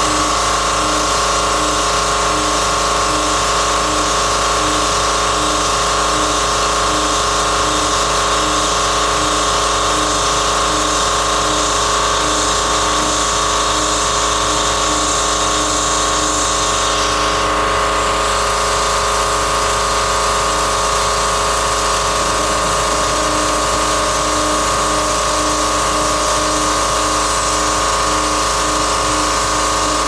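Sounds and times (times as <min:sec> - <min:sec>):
cutter milling metal: 0:00.0 - 0:30.0
router spindle whine: 0:00.0 - 0:30.0.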